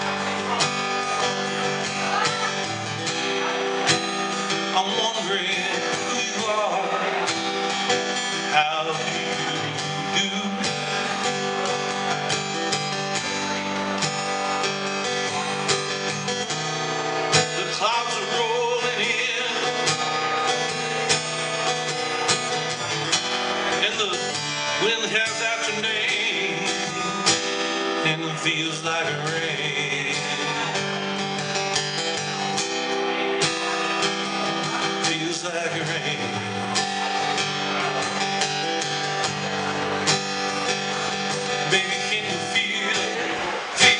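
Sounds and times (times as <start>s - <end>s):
acoustic guitar strumming: 0.0s - 43.9s.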